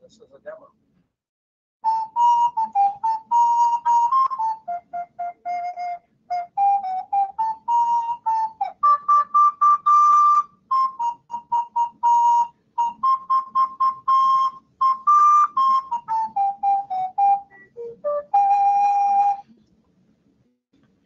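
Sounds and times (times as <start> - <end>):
recorder melody: 1.8 - 19.5.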